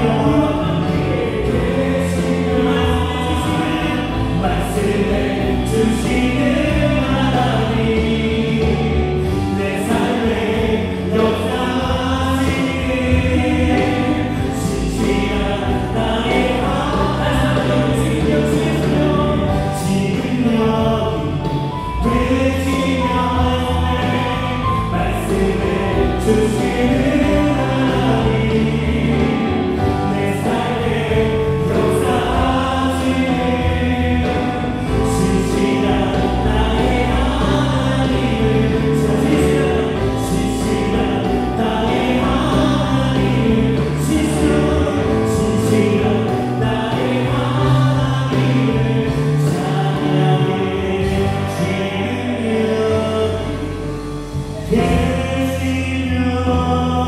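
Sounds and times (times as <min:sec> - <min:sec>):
drum kit: 0:00.0 - 0:56.2
bass guitar: 0:00.0 - 0:57.0
group of voices singing: 0:00.0 - 0:57.0
keyboards: 0:00.0 - 0:57.0.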